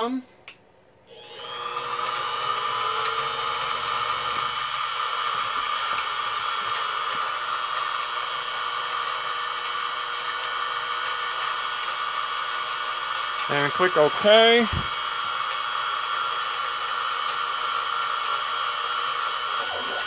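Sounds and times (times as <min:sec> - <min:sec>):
mill spindle motor whine: 0:01.0 - 0:20.0.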